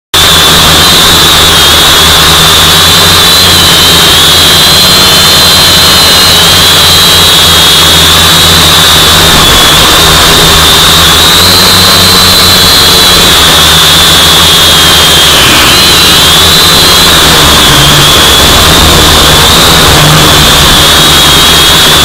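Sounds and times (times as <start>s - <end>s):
drone motors high whine: 0.2s - 22.0s.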